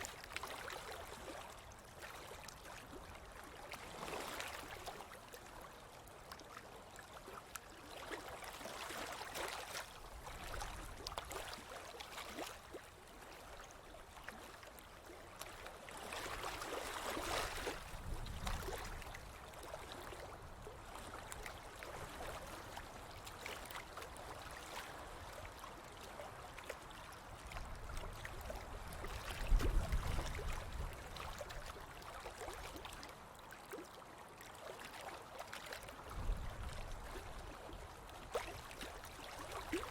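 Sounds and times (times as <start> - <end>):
ocean waves on a beach: 0.0 - 39.9.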